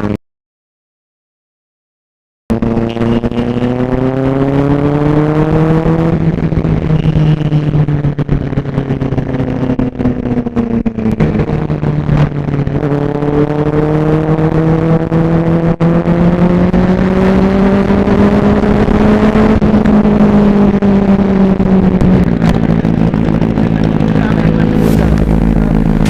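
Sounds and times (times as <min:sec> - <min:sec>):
motorcycle engine revving: 0:02.5 - 0:26.0.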